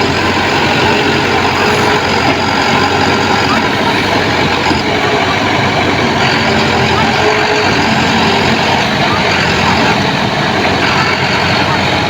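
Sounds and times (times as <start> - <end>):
heavy diesel engine running: 0.0 - 12.0
voices: 0.0 - 12.0.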